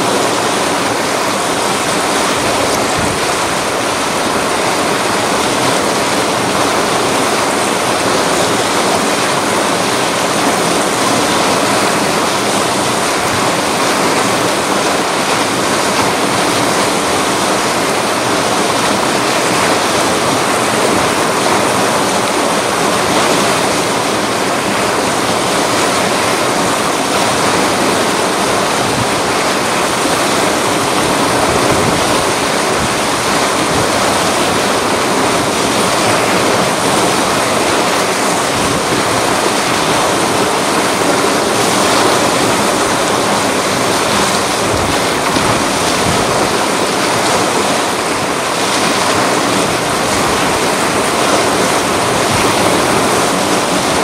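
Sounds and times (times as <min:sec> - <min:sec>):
rushing river rapids: 0:00.0 - 0:54.0.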